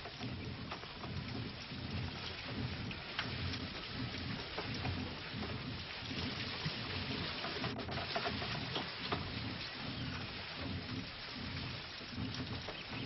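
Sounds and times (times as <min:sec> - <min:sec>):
light clicks and knocks: 0:00.0 - 0:13.0
water splashing at mill wheel: 0:00.0 - 0:13.0.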